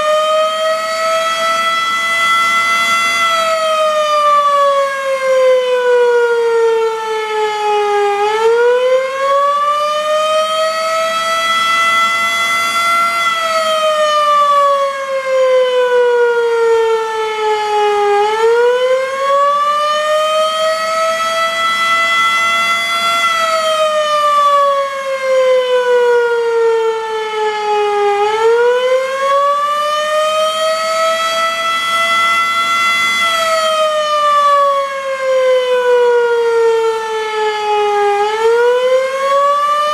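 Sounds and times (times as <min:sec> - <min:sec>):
civil defense siren wailing: 0:00.0 - 0:39.9.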